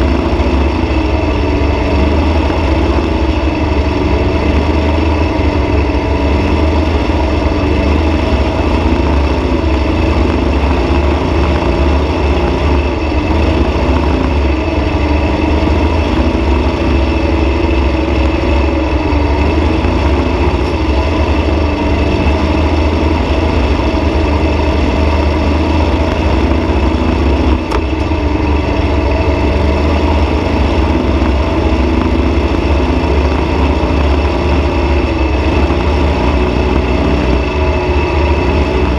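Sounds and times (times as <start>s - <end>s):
dune buggy engine running: 0.0s - 38.9s.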